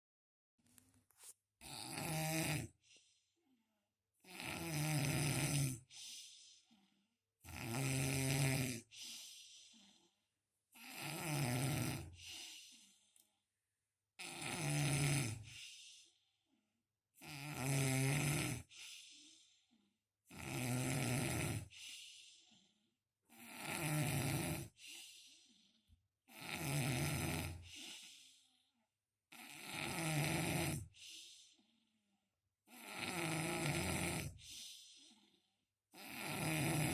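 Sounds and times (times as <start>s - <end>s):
person snoring: 1.6s - 3.2s, 4.2s - 13.2s, 14.2s - 16.3s, 17.2s - 22.6s, 23.3s - 28.7s, 29.3s - 31.7s, 32.7s - 36.9s.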